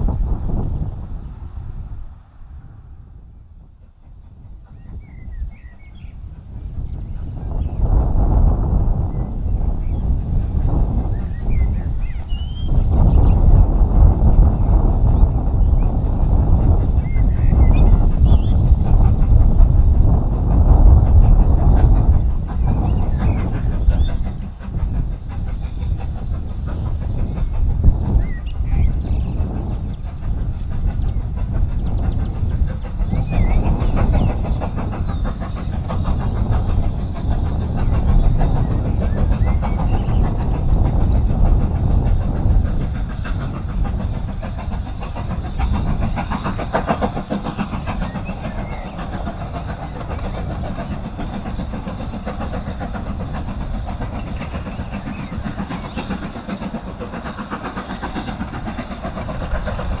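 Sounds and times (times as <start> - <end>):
distant steam locomotive rumble: 0.0 - 60.0.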